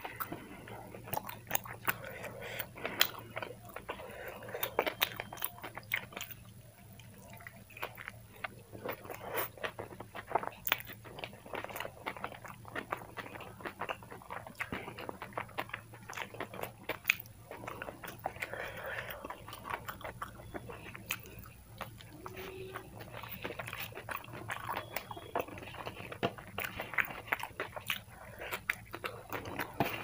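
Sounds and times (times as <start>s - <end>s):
close chewing mouth clicks: 0.0s - 30.0s.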